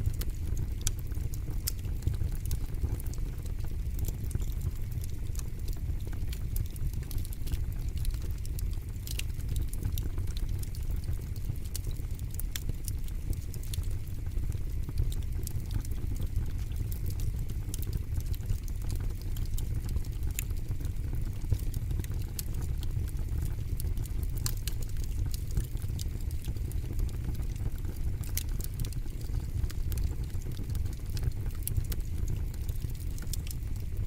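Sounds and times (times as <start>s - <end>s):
fire pops and snaps: 0.0s - 34.0s
wood fire crackling: 0.0s - 34.0s.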